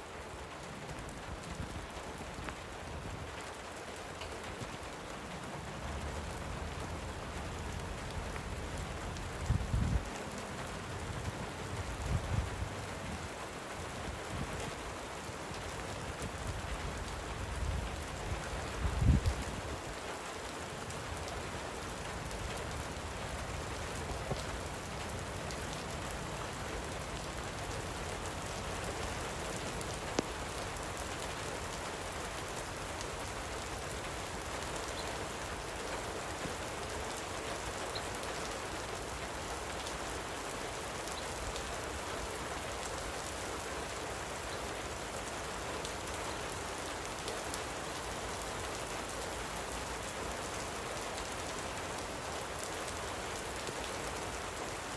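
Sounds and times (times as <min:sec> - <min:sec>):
light rain falling: 0:00.0 - 0:54.9.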